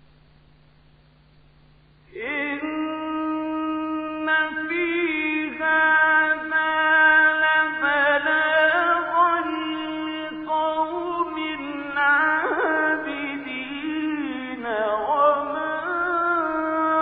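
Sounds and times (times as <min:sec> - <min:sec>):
faint hum: 0:00.0 - 0:17.0
man reciting melodically: 0:02.1 - 0:17.0.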